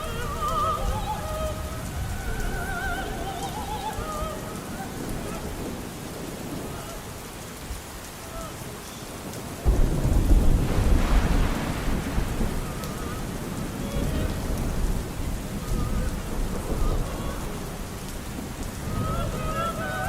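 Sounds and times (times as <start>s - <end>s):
rolling thunder: 0.0s - 8.7s, 9.6s - 20.0s
faint operatic singing: 0.0s - 9.0s, 12.2s - 20.0s
steady rain: 0.0s - 20.0s.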